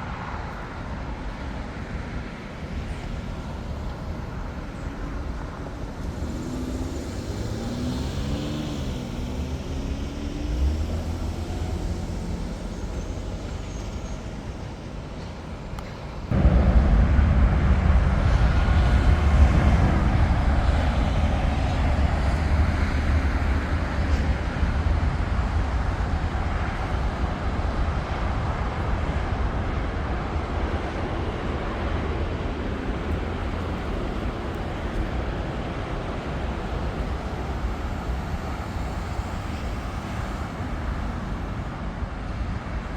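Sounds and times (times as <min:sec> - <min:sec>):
jet airliner engine rumble: 0:00.0 - 0:42.9.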